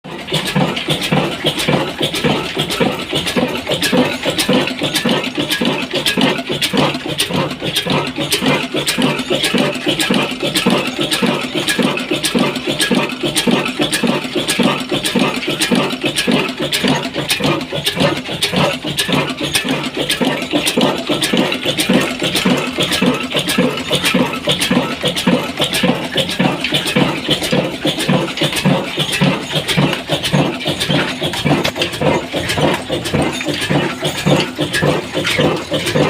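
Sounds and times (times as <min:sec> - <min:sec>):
slow diesel engine knocking: 0:00.1 - 0:36.0.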